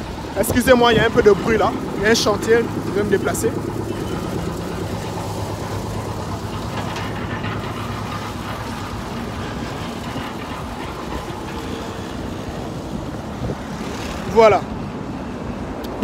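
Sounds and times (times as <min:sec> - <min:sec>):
machinery engine humming: 0:00.0 - 0:16.0.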